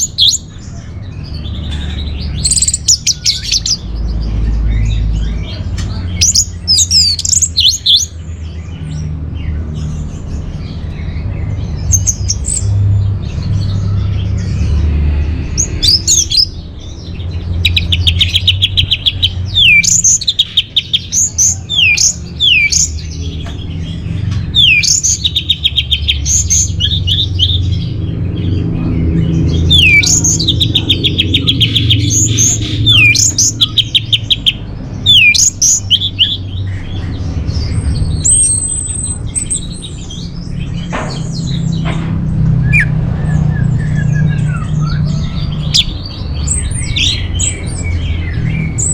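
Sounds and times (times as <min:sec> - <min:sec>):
bird singing trilled phrases: 0:00.0 - 0:14.8, 0:15.4 - 0:42.0, 0:42.6 - 0:48.9.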